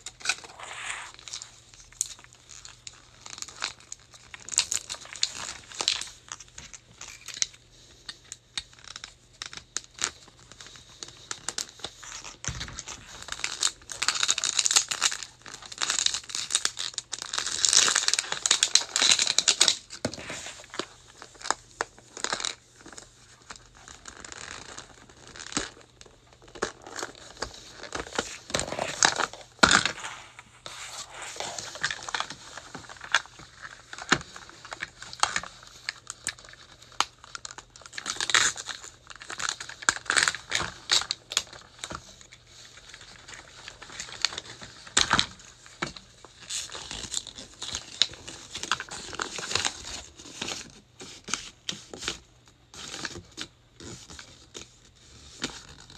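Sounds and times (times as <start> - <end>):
plastic film crinkling and tearing: 0.0 - 55.9.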